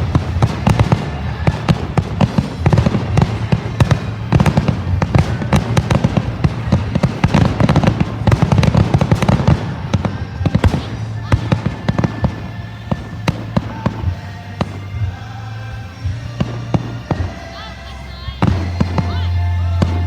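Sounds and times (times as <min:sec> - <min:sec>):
deep firework booms: 0:00.0 - 0:17.6, 0:18.4 - 0:20.0
fireworks popping and banging: 0:00.0 - 0:20.0.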